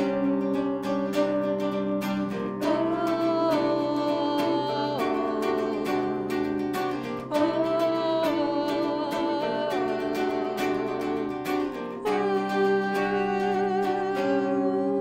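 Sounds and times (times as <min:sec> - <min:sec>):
acoustic guitar: 0:00.0 - 0:15.0
electric guitar melody: 0:00.0 - 0:15.0.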